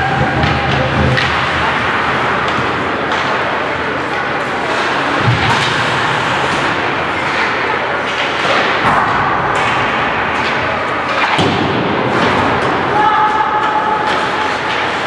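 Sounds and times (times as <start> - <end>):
skates and sticks on ice: 0.0 - 15.0.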